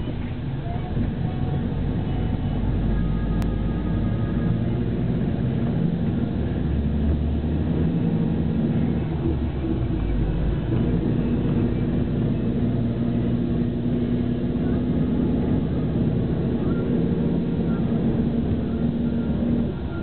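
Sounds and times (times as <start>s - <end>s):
bus diesel engine running: 0.0s - 20.0s
road noise: 0.0s - 20.0s.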